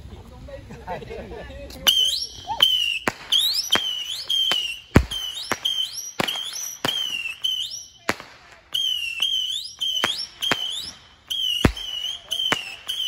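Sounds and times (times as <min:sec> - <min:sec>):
firework cracks: 0:01.8 - 0:13.0
shrill firework whistle: 0:01.9 - 0:13.0.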